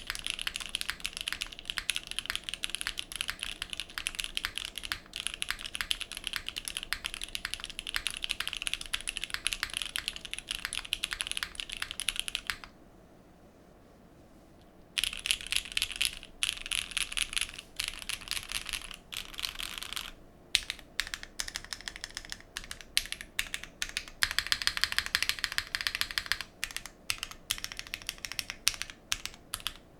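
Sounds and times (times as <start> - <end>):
mechanical keyboard typing: 0.0 - 12.7, 15.0 - 29.9.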